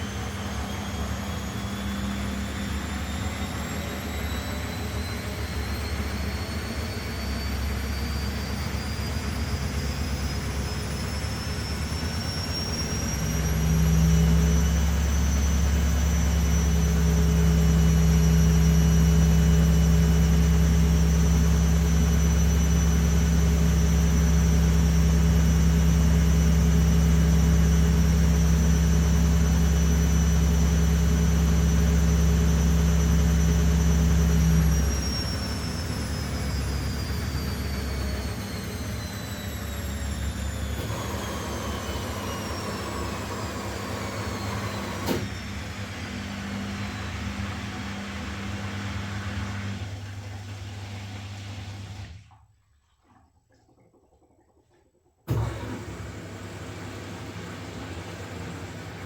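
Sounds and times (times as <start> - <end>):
washing machine spinning: 0.0 - 54.7, 55.3 - 59.0.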